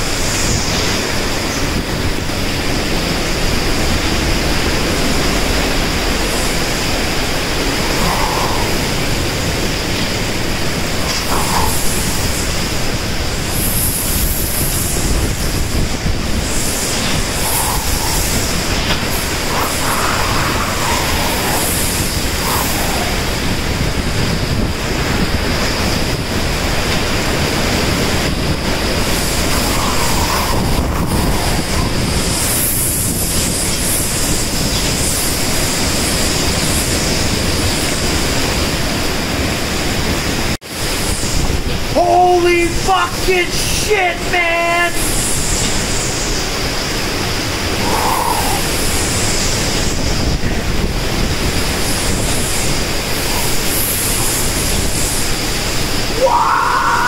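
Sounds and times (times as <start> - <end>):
driving rain: 0.0 - 57.0
strong wind: 0.0 - 57.0
wind buffeting microphone: 0.0 - 57.0.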